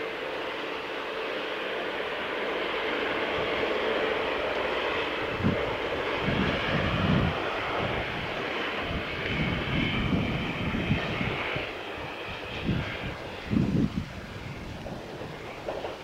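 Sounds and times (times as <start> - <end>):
wind gusts buffeting microphone: 2.0 - 16.0.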